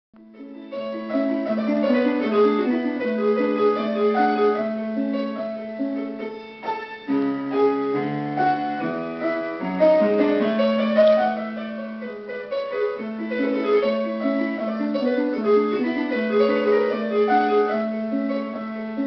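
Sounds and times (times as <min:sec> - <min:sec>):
piano melody: 0:00.2 - 0:19.0.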